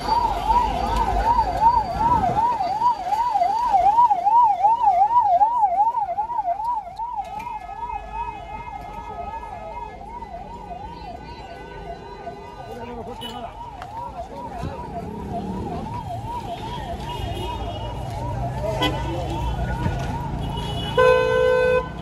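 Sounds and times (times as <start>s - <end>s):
emergency siren wailing: 0.0s - 22.0s.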